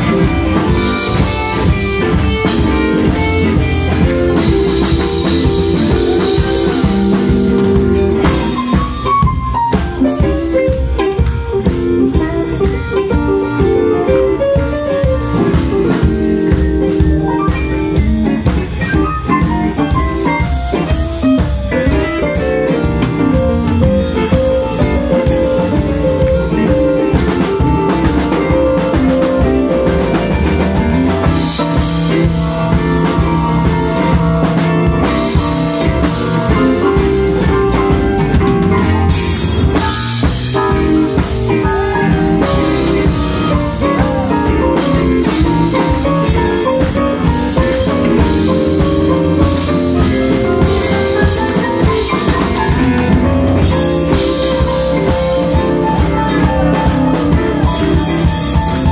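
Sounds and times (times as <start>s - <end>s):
drum kit steady beat: 0.0s - 58.9s
electric guitars: 0.0s - 58.9s
keyboard: 0.0s - 58.9s.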